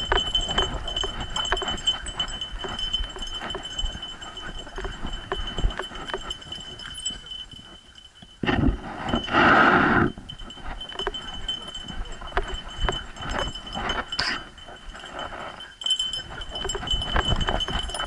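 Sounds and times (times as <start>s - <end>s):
metal harness jingling: 0.0s - 8.3s, 10.3s - 18.0s.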